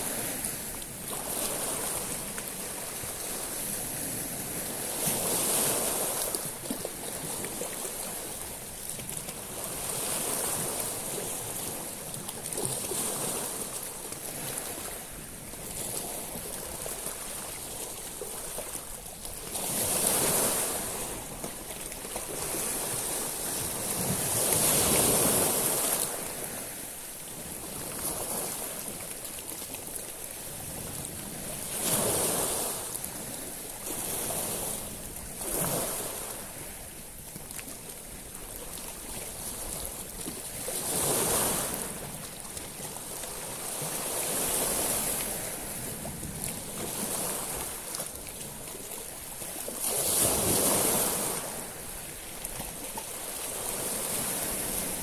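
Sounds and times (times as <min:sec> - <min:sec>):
waves breaking on pebbles: 0:00.0 - 0:38.2, 0:38.8 - 0:55.0.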